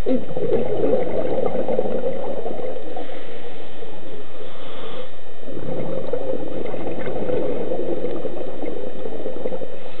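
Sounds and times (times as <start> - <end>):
underwater bubbling and gurgling: 0.0 - 10.0.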